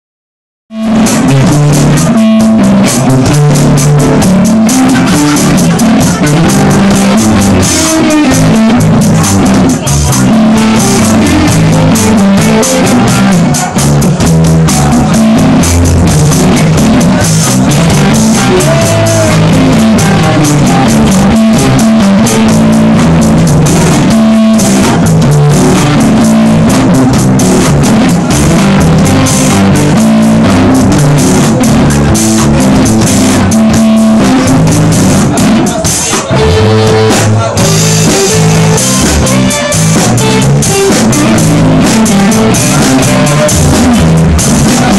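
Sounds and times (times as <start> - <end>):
bass guitar: 0.7 - 44.9
drum kit: 0.7 - 44.9
electric guitar: 0.7 - 44.9.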